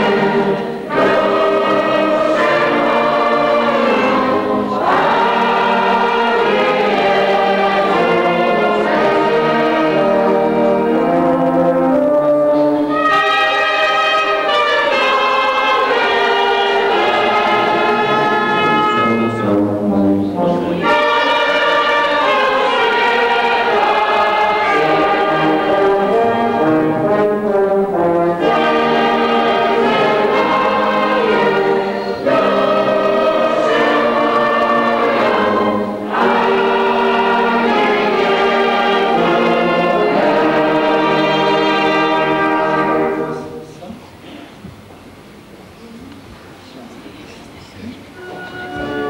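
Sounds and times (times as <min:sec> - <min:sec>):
choir singing held chords: 0:00.0 - 0:44.9, 0:48.1 - 0:49.0.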